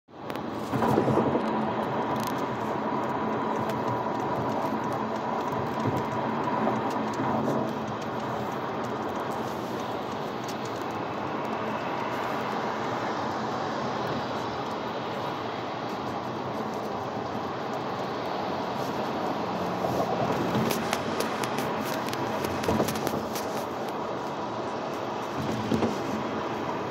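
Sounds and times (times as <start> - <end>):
road and tyre noise: 0.1 - 26.9
car engine hum: 0.2 - 26.9.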